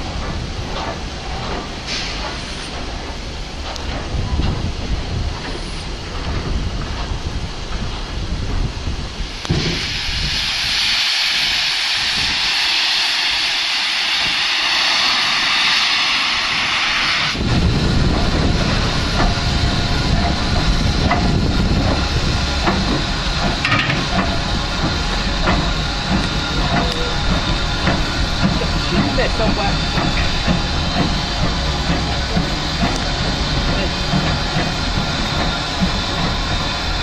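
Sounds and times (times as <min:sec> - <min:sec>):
steam locomotive hissing: 0:00.0 - 0:37.0
low rumble: 0:02.7 - 0:37.0.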